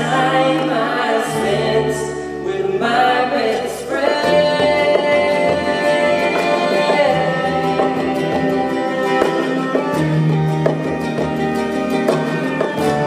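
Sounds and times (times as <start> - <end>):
acoustic guitars: 0.0 - 13.0
sung harmonies: 0.0 - 13.0.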